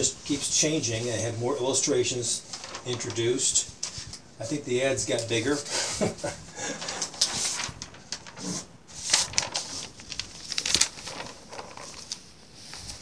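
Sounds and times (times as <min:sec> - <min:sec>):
newspaper pages rustling: 0:00.0 - 0:13.0.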